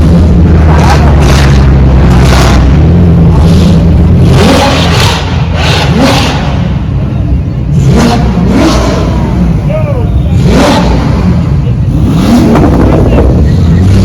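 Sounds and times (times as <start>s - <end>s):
car engine revving loudly: 0.0s - 14.0s.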